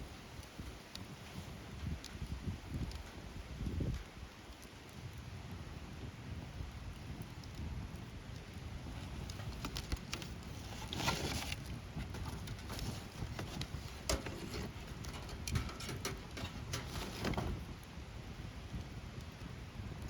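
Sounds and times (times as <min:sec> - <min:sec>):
bonfire crackling and popping: 0:00.0 - 0:20.0
low rumble of fire: 0:00.0 - 0:20.0.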